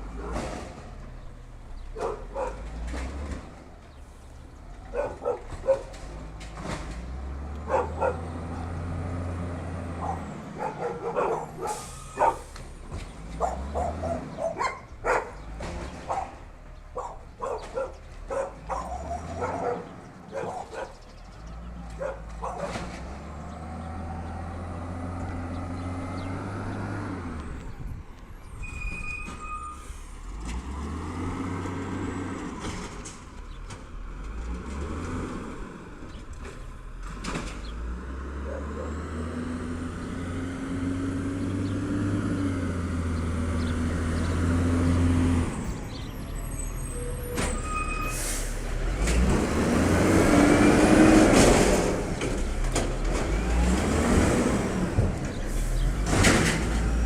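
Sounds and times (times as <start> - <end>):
diesel truck engine revving: 0.0 - 28.7, 29.8 - 57.0.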